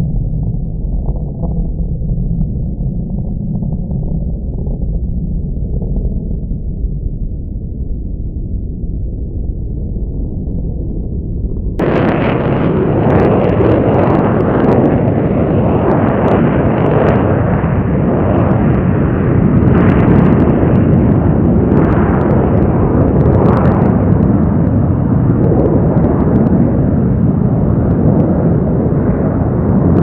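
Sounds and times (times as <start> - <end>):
jet engine rumble with crackles: 0.0 - 30.0.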